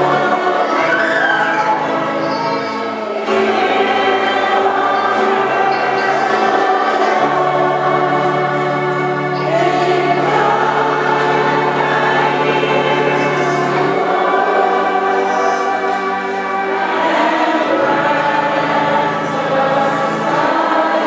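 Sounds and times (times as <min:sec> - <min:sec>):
group singing a hymn: 0:00.0 - 0:21.0.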